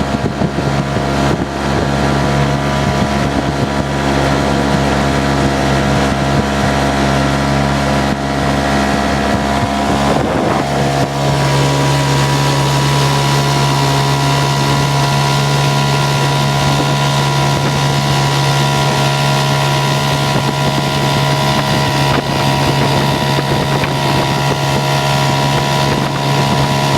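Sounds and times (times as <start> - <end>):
outboard motor running: 0.0 - 26.9.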